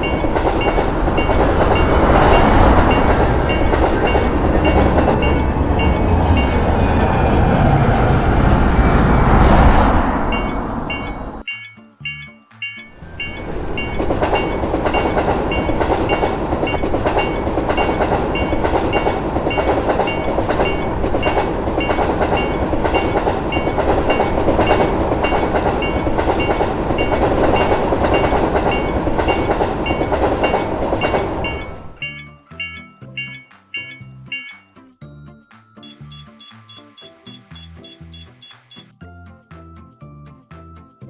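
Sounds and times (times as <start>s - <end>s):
train wheels rumbling on rails: 0.0s - 11.4s, 12.9s - 32.2s, 35.8s - 38.8s
crossing warning bell ringing: 0.0s - 34.9s, 35.8s - 38.9s.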